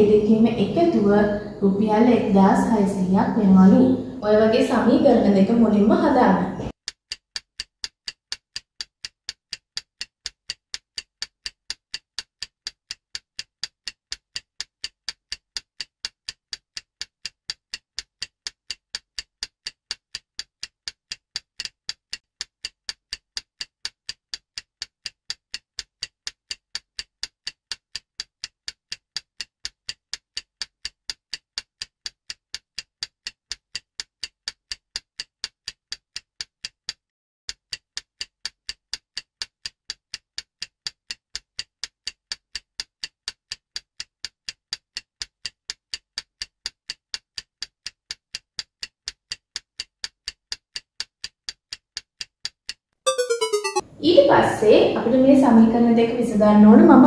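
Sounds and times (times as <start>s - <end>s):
stopwatch ticking: 6.8s - 53.8s.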